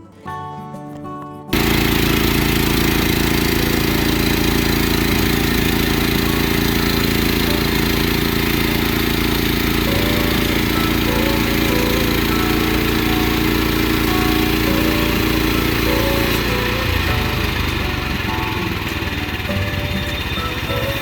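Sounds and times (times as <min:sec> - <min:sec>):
small gas engine running: 0:01.5 - 0:21.0.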